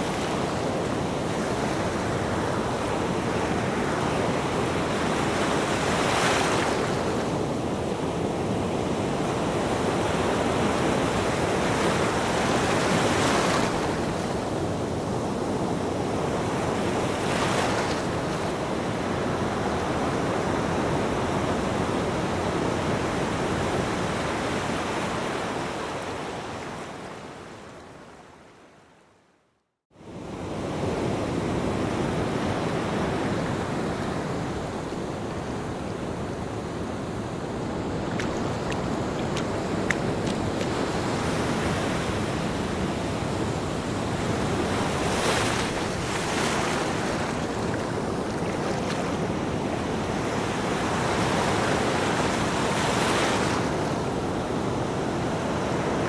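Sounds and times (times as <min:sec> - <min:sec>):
ocean waves breaking on beach: 0:00.0 - 0:27.7, 0:30.0 - 0:56.0.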